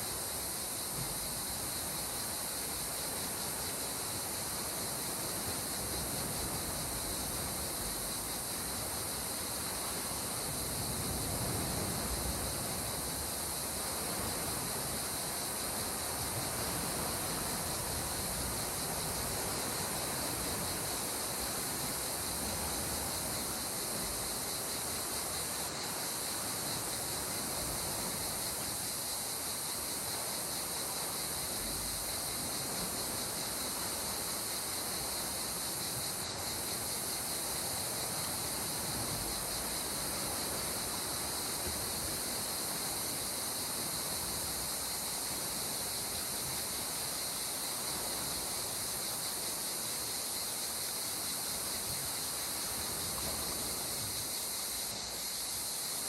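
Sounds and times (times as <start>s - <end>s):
constant high hiss: 0.0s - 56.0s.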